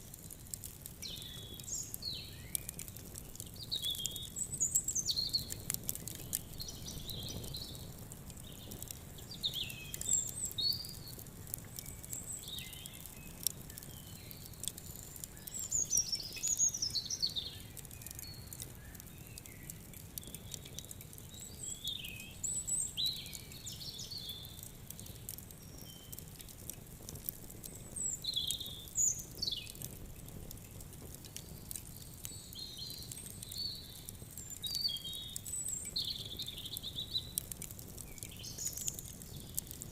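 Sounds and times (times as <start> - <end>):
wood fire crackling: 0.0 - 39.9
small birds chirping and trilling: 0.6 - 26.5, 27.6 - 29.9, 31.3 - 39.9.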